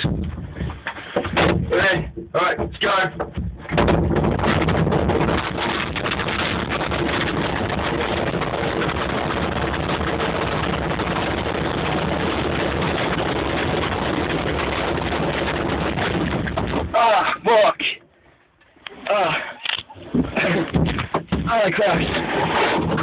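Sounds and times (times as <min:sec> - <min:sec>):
bin rumbling and rattling downhill: 0:00.0 - 0:17.0, 0:20.1 - 0:23.0.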